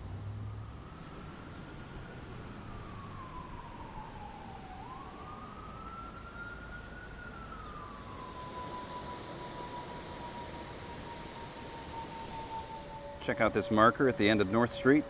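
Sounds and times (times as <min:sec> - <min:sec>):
distant wavering siren: 0:00.0 - 0:15.0.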